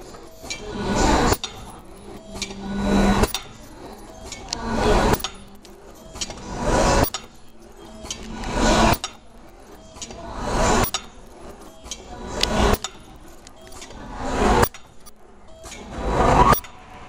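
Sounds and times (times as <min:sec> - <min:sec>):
machine click: 0:00.0 - 0:15.9
machine whirring: 0:00.0 - 0:17.0.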